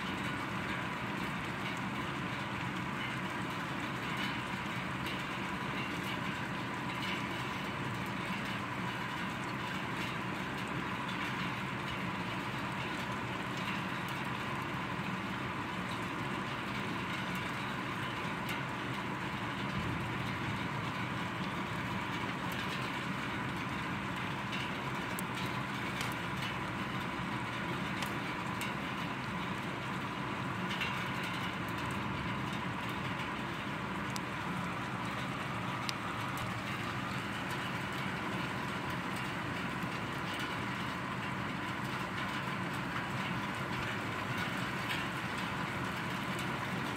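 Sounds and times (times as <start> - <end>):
heavy rain: 0.0 - 46.9
raindrop ticks: 0.0 - 46.9.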